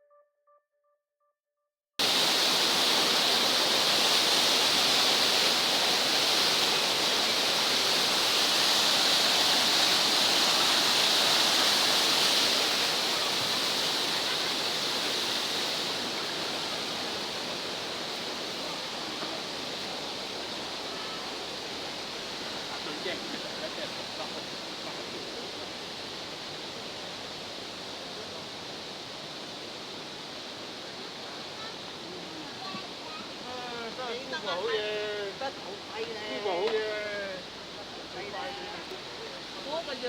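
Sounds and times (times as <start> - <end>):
waterfall rushing: 2.0 - 40.0.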